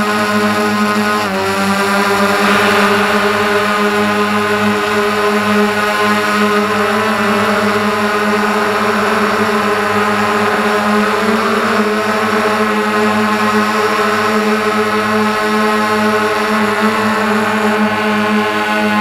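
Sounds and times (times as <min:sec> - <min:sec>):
drone propellers humming: 0:00.1 - 0:19.0.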